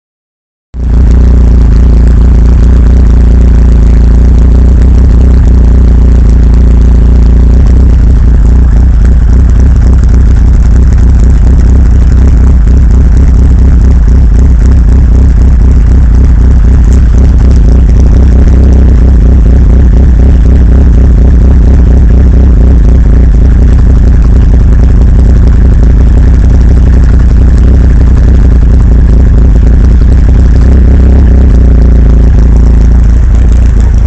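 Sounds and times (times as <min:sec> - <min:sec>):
engine idling roughly: 0:00.8 - 0:34.0.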